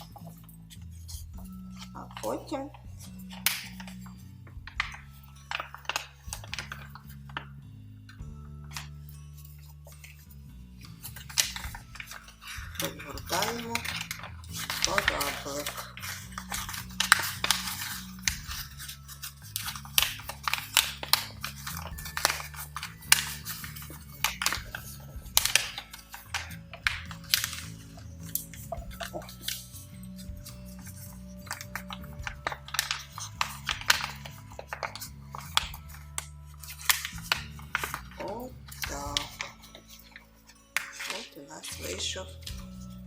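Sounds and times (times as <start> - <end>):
paper crinkling: 0.0 - 7.6, 8.6 - 43.0
soft background music: 0.0 - 43.0.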